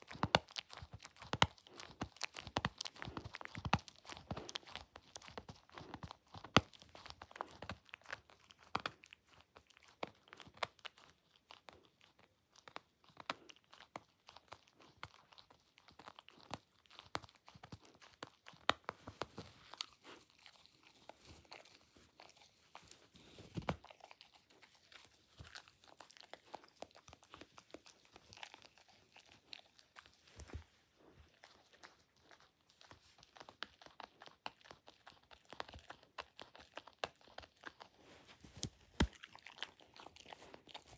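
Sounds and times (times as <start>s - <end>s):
dog chewing plush toy: 0.0s - 40.9s.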